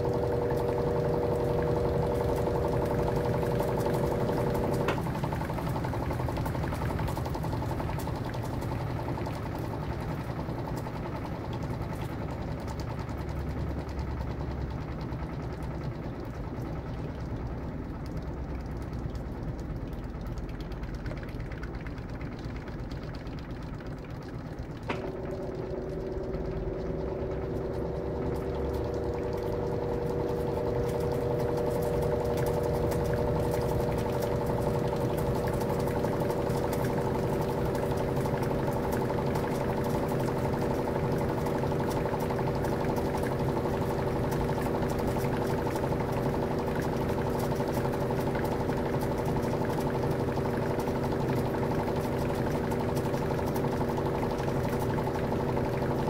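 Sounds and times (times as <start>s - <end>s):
steady higher hum: 0.0s - 56.0s
washing machine spinning: 0.0s - 56.0s.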